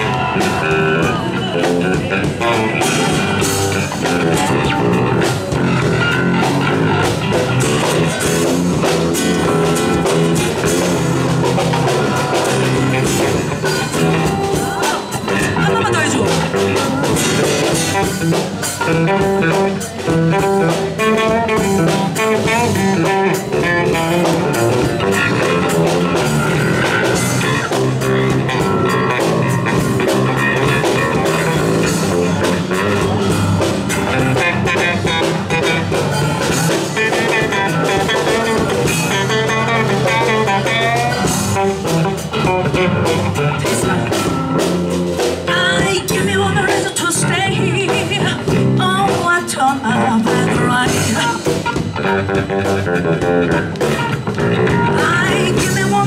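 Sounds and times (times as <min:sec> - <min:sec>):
drum kit playing: 0:00.0 - 0:56.0
electric bass guitar: 0:00.0 - 0:56.0
guitar: 0:00.0 - 0:56.0.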